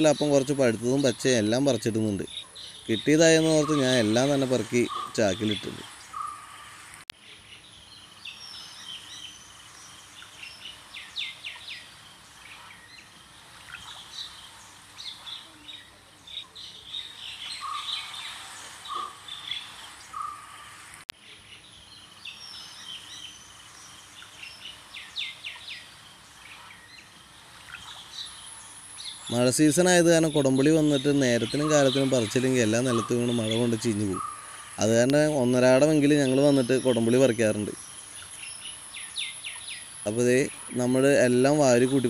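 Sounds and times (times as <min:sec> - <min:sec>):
birds chirping and trilling: 0:00.0 - 0:42.0
faint outdoor hiss: 0:00.0 - 0:42.0.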